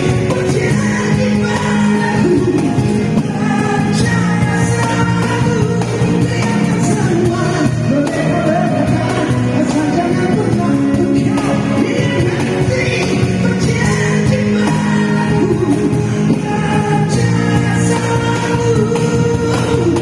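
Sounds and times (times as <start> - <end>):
acoustic band playing: 0.0 - 20.0
person singing: 0.0 - 20.0.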